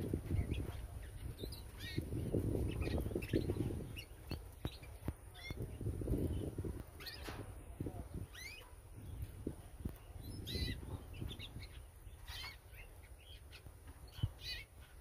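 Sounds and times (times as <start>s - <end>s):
canary chirping: 0.0s - 7.4s, 8.1s - 15.0s.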